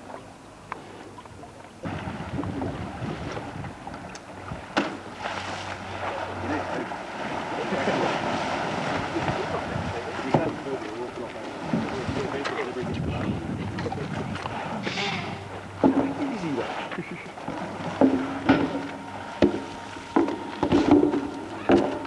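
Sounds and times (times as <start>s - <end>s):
water splashing and churning: 0.0s - 22.0s.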